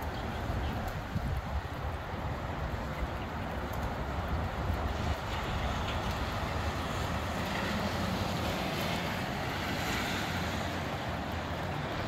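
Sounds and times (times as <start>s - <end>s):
wind buffeting microphone: 0.0s - 10.1s
wind rushing through trees: 0.0s - 12.0s.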